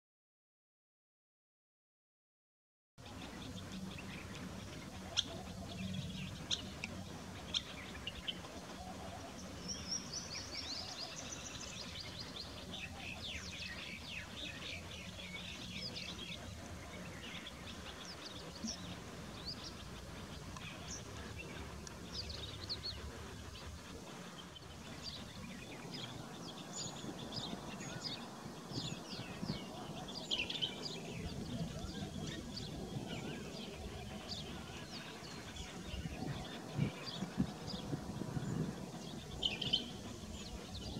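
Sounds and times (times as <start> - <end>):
birds chirping: 3.0 - 40.9.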